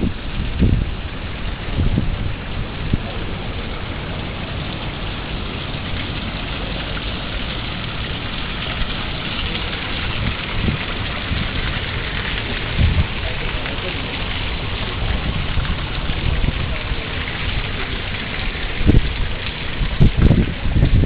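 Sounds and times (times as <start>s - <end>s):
water jet splashing on tiles: 0.0s - 21.0s.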